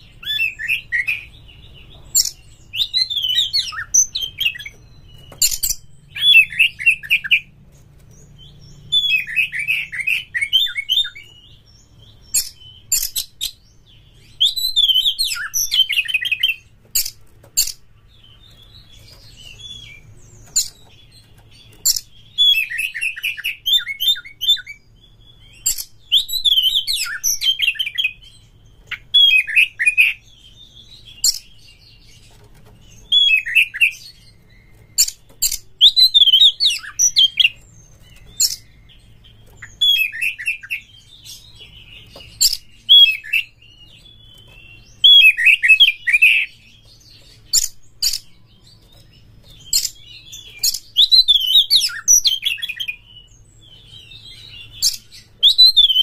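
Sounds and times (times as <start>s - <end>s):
bird singing warbling phrases: 0.0s - 56.0s.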